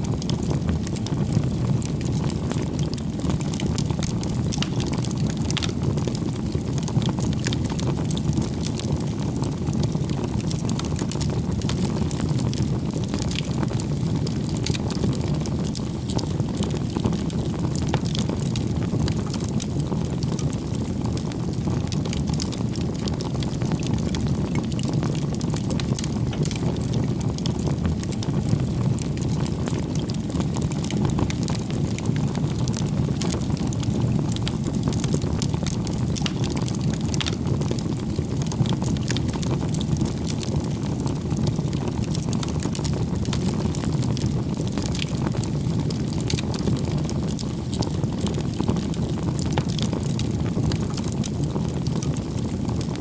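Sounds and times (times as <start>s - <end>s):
burning wood crackling: 0.0s - 53.0s
campfire flame rushing: 0.1s - 53.0s.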